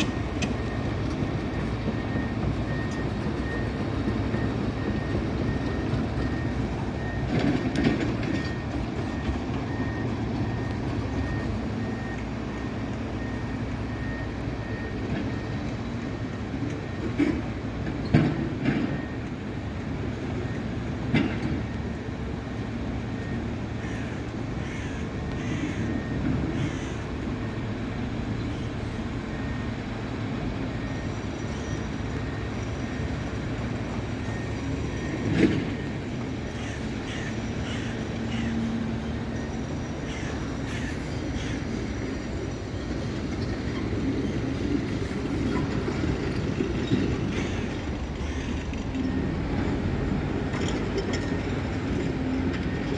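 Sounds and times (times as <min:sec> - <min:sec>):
diesel machinery rumble: 0:00.0 - 0:52.9.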